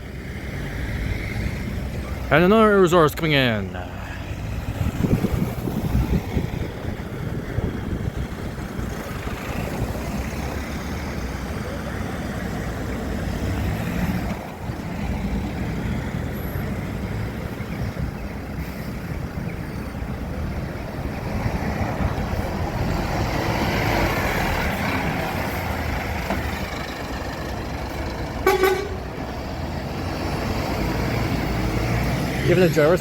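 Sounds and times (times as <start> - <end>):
bus and traffic engine rumble: 0.0 - 33.0.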